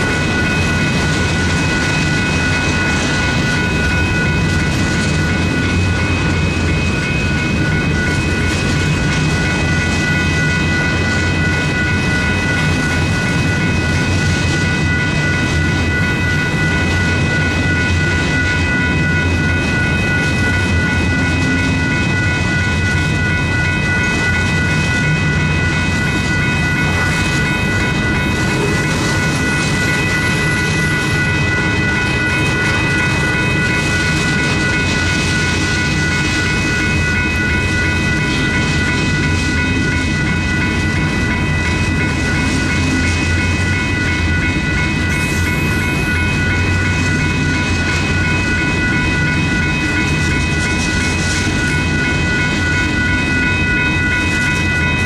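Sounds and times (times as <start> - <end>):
crossing warning bell: 0.0 - 55.0
train wheels clacking on rails: 0.0 - 55.0.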